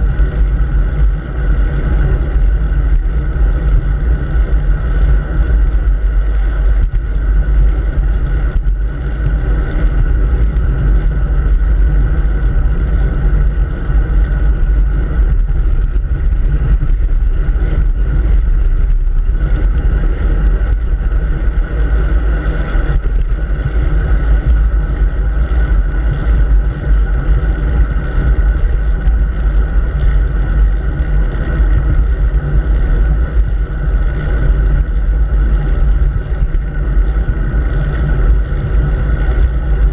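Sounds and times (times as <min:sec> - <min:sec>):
bicycle tyre and road noise: 0:00.0 - 0:39.9
wind rumble on microphone: 0:00.0 - 0:39.9.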